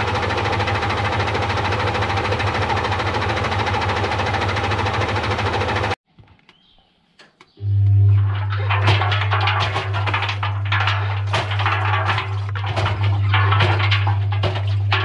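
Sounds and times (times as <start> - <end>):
rapid rattle in drum: 0.0 - 6.0, 8.5 - 15.0
washing machine hum: 0.0 - 6.0, 7.6 - 15.0.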